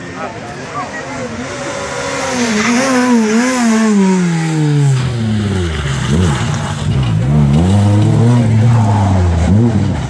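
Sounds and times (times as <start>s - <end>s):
rally car engine revving: 1.0s - 10.0s.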